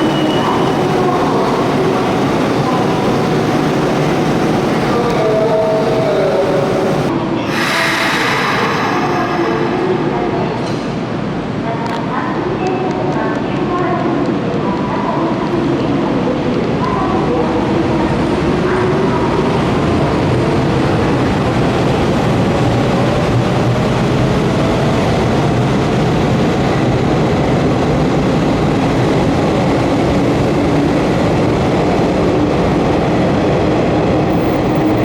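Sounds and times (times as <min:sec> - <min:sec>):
train running noise: 0:00.0 - 0:35.0.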